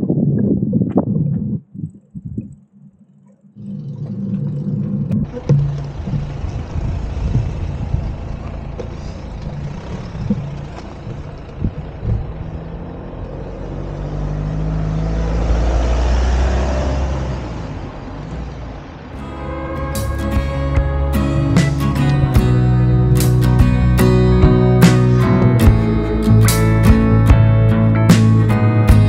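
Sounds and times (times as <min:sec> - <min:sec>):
vehicle passing on road: 0:04.5 - 0:28.7.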